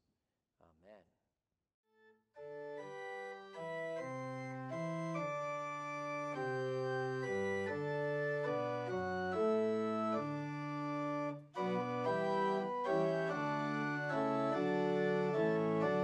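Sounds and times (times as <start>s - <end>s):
organ playing sustained chords: 2.4s - 16.0s.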